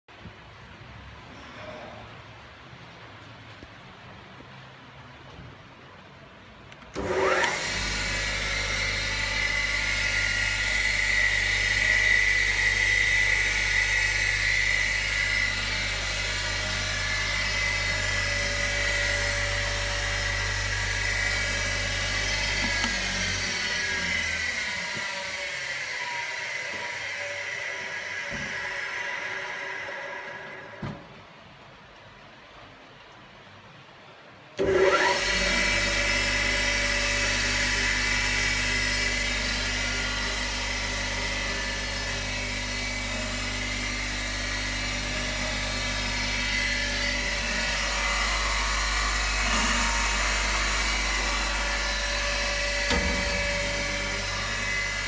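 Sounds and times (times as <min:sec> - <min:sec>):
grinder motor whine: 0:06.9 - 0:31.1, 0:34.6 - 0:55.0.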